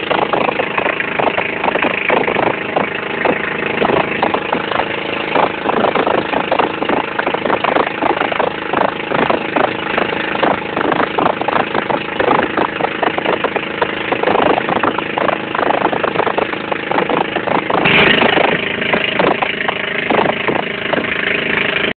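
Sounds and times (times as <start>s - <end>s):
boat engine running: 0.0s - 21.9s
water splashing against hull: 0.0s - 21.9s.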